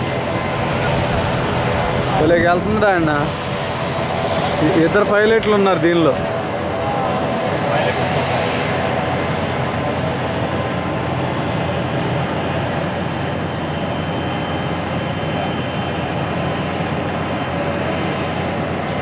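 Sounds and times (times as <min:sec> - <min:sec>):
turboprop engines droning: 0:00.0 - 0:19.0.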